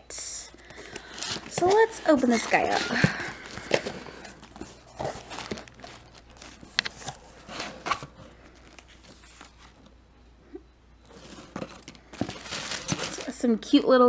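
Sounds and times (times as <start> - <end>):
cardboard and paper rustling: 0.5 - 9.9, 11.1 - 14.0.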